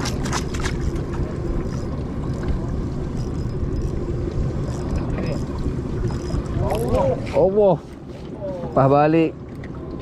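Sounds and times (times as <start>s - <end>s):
boat engine rumble: 0.0s - 10.0s.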